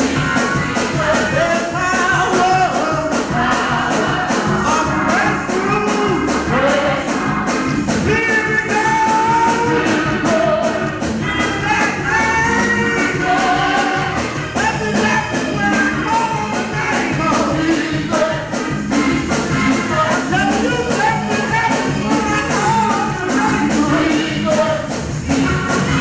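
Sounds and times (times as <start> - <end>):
band playing: 0.0 - 26.0
steady drum beat: 0.0 - 26.0.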